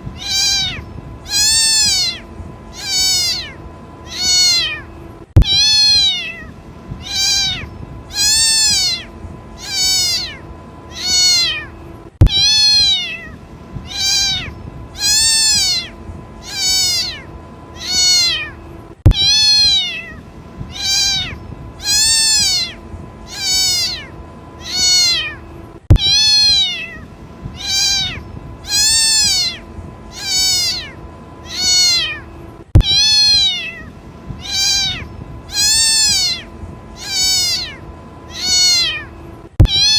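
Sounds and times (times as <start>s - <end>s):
kitten meowing: 0.2s - 39.9s.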